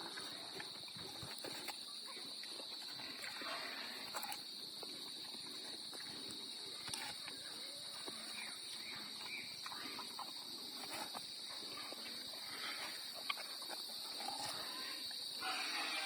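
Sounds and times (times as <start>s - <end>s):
pigs chewing and crunching: 0.0s - 16.0s.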